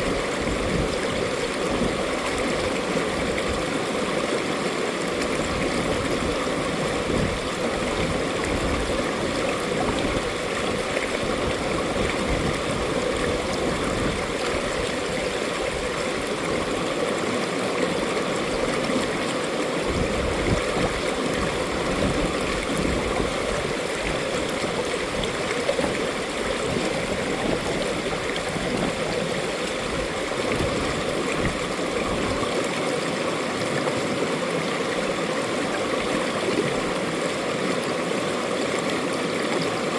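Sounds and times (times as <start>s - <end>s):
stream splashing over rocks: 0.0s - 39.9s.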